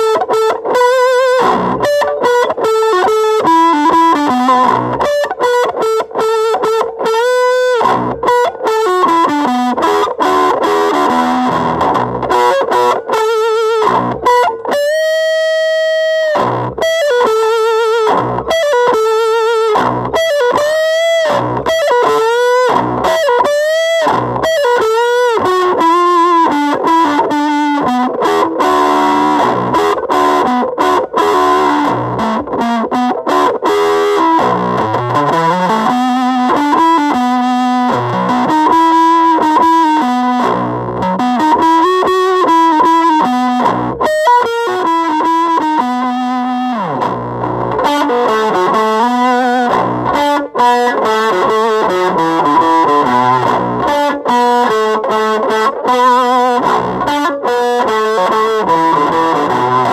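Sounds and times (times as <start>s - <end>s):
fuzz electric guitar notes: 0.0s - 59.9s.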